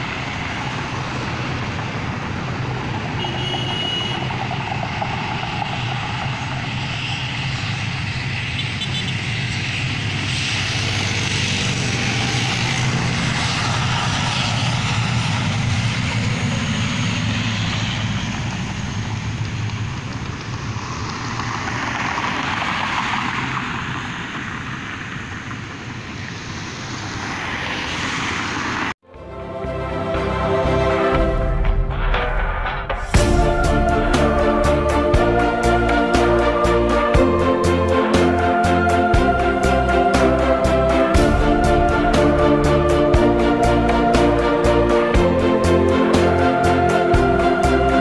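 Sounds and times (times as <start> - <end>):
propeller plane engines droning: 0.0 - 31.8, 33.1 - 48.0.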